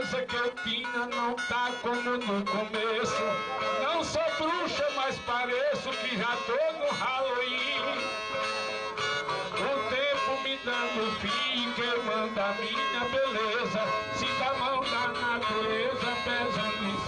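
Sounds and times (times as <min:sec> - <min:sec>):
plucked and strummed violas: 0:00.0 - 0:17.0.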